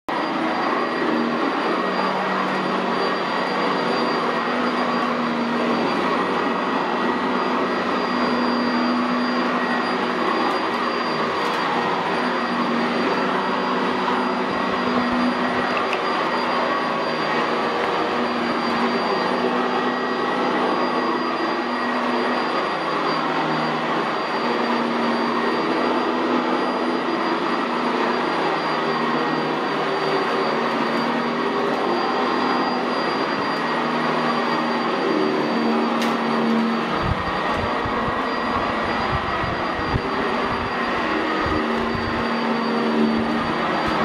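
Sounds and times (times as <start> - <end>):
upright vacuum cleaner on carpet: 0.1 - 44.0.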